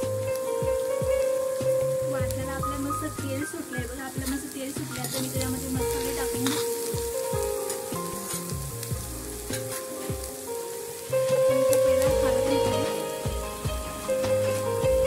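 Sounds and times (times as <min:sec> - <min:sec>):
background music: 0:00.0 - 0:15.0
food sizzling in oil: 0:00.0 - 0:15.0.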